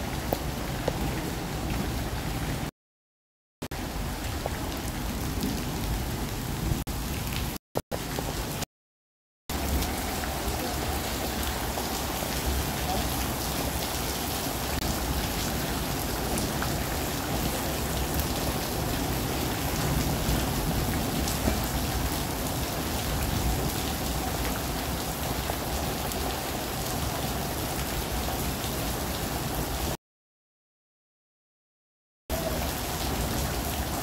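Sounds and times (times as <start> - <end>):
heavy rain falling: 0.0 - 2.7, 3.7 - 8.7, 9.5 - 30.0, 32.3 - 34.0.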